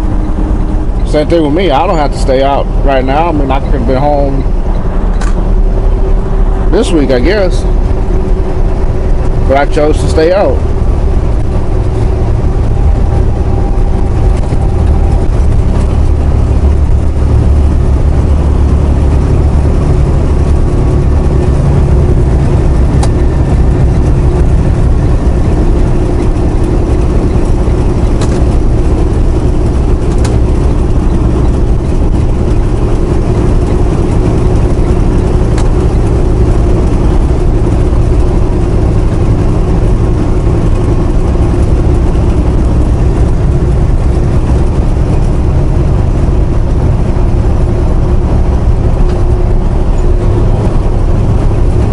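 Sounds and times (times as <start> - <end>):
truck engine and road rumble: 0.0 - 51.9.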